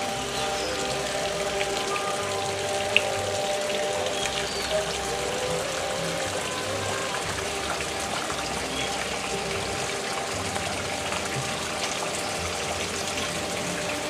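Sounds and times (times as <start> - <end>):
water splashing into pond: 0.0 - 14.0.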